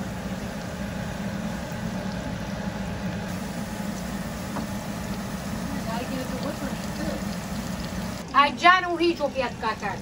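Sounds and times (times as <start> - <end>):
steady low hum: 0.0 - 8.4
oil sizzling and bubbling in pan: 0.0 - 10.0.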